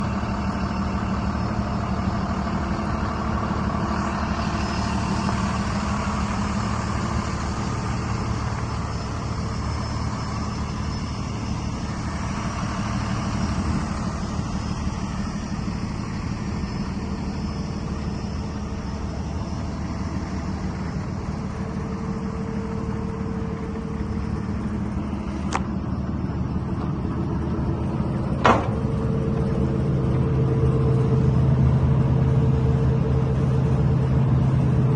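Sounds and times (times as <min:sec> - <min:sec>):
diesel lorry engine running: 0:00.0 - 0:34.9.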